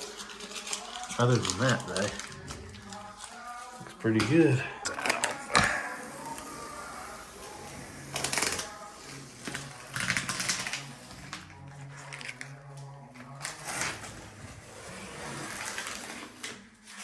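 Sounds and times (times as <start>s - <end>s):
tape peeling with crackling rips: 0.0s - 4.0s, 5.0s - 17.0s.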